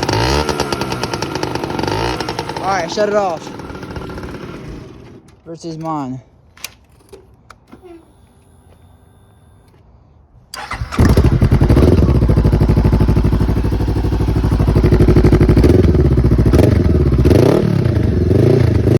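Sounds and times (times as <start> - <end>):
motorcycle engine starting and idling: 0.0 - 18.9.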